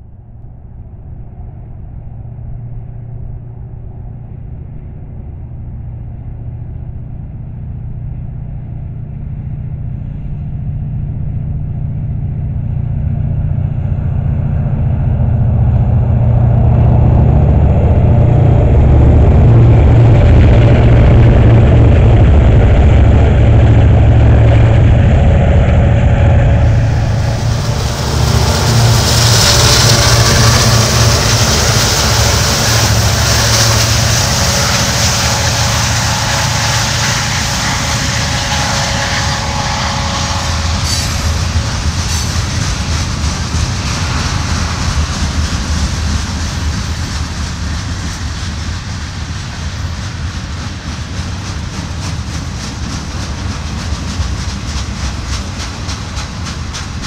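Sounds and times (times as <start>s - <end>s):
locomotive engines rumbling: 0.0s - 57.0s
train wheel and rail noise: 0.0s - 57.0s.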